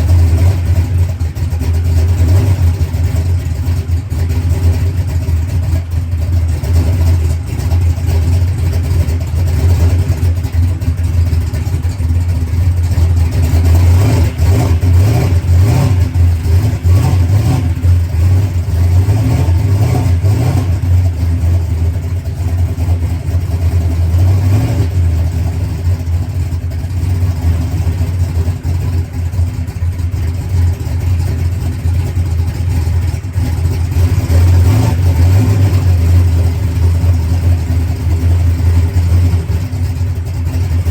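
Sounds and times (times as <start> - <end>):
race car engine idling: 0.0 - 40.9.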